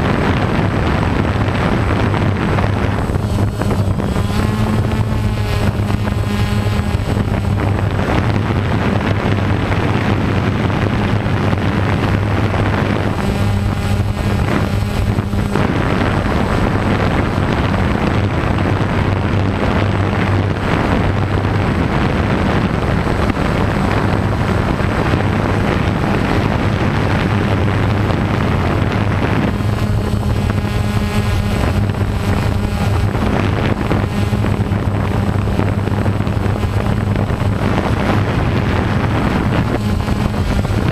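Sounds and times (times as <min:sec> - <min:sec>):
drone propellers humming: 0:00.0 - 0:40.9
high-pitched whine: 0:00.0 - 0:40.9
wind noise: 0:00.0 - 0:40.9.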